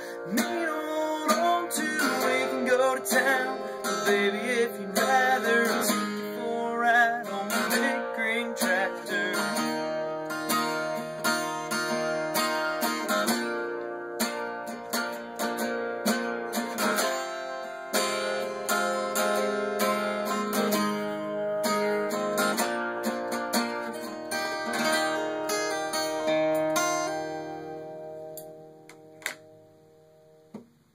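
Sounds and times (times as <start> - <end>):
acoustic guitar strumming: 0.0 - 30.7.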